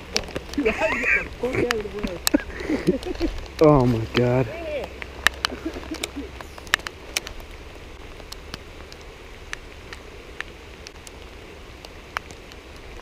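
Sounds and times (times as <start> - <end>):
raindrops ticking near microphone: 0.0 - 13.0
steady rain falling: 0.0 - 13.0.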